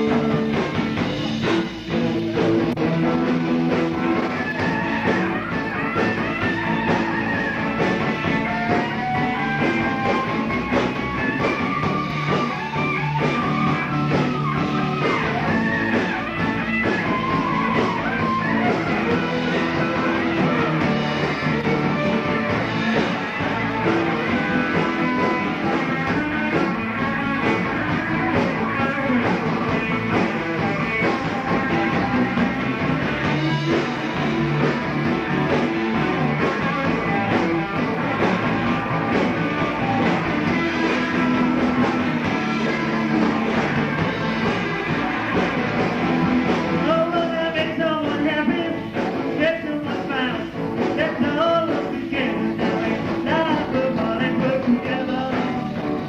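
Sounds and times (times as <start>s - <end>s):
bass guitar: 0.0s - 56.0s
electric guitar lead: 0.0s - 56.0s
steady drum beat: 0.0s - 56.0s.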